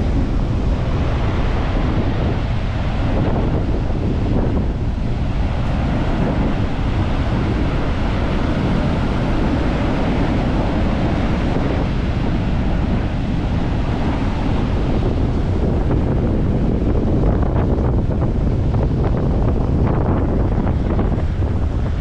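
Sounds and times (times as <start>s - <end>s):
waves breaking on beach: 0.0s - 19.6s
wind buffeting microphone: 0.0s - 22.0s.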